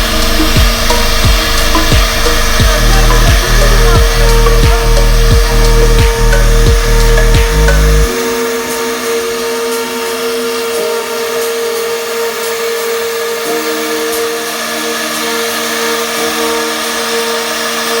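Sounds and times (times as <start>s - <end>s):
cnc router whining: 0.0s - 18.0s.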